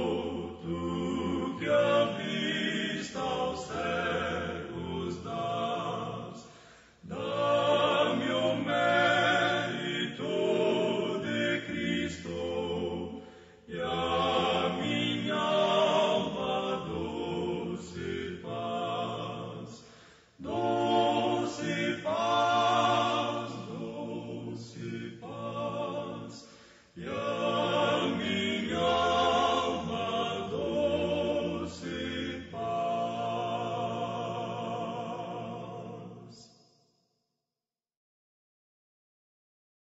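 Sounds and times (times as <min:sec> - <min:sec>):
choir singing a hymn: 0:00.0 - 0:36.6.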